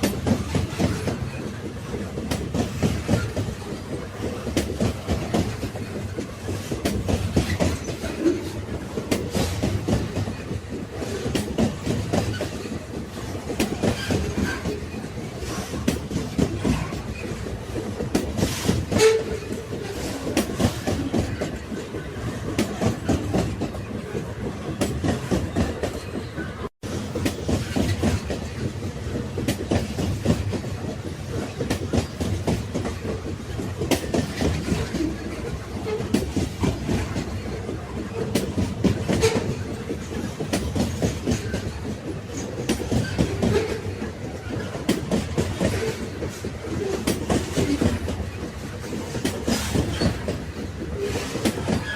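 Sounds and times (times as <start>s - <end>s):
railway cars rattling on rails: 0.0s - 51.9s.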